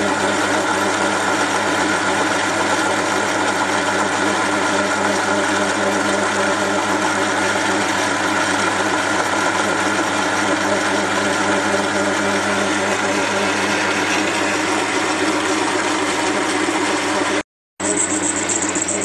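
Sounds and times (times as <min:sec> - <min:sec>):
lathe tool cutting metal: 0:00.0 - 0:19.0
metal lathe motor humming: 0:00.0 - 0:19.0.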